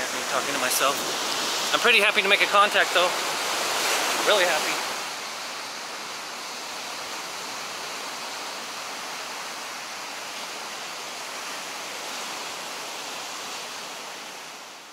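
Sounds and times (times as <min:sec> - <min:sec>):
ocean surf breaking: 0:00.0 - 0:14.6.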